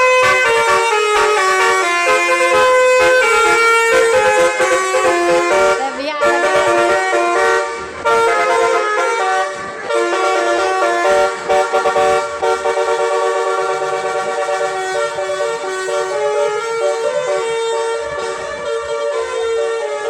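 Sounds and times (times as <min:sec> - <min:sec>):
bus musical air horns: 0:00.0 - 0:20.0.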